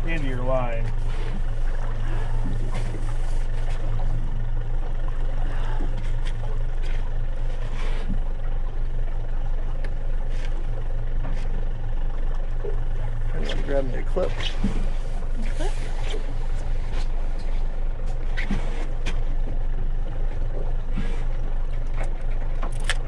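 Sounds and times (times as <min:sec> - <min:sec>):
boat motor humming: 0:00.0 - 0:23.0
water noise: 0:00.0 - 0:23.0.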